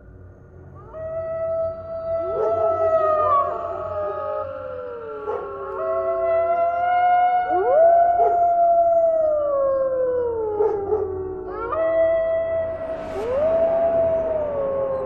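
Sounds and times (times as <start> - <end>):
dogs howling: 0.8 - 15.0.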